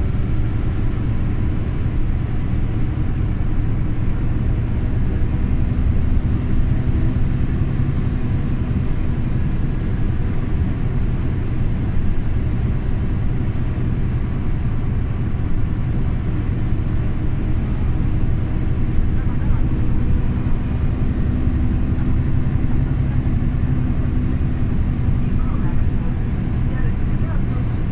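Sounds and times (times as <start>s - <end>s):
bus engine low rumble: 0.0s - 27.9s.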